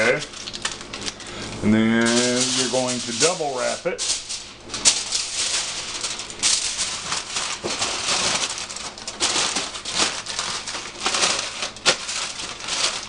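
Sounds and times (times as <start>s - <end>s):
aluminum foil crinkling: 0.0s - 13.0s.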